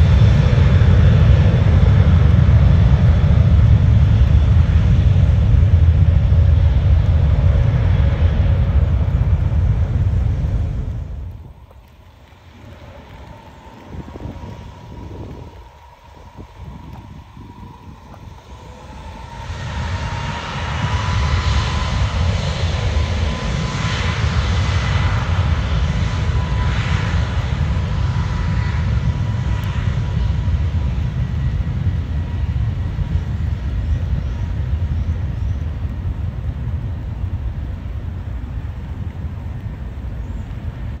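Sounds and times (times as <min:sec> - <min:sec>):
faint engine whine: 0:00.0 - 0:41.0
jet engines deep rumble: 0:00.0 - 0:41.0.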